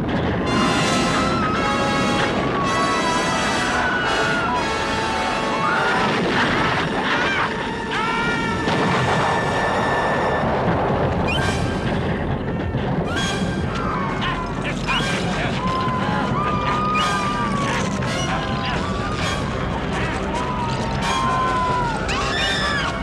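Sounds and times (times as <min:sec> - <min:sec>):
film music: 0:00.0 - 0:23.0
volcanic eruption rumble with booms: 0:00.0 - 0:23.0
high rising and falling cries: 0:00.4 - 0:10.5, 0:12.4 - 0:23.0.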